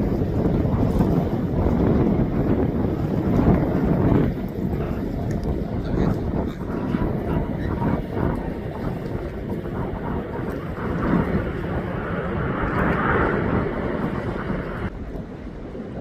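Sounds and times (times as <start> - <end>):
jet engine noise: 0.0 - 16.0
wind rumbling on microphone: 0.0 - 16.0.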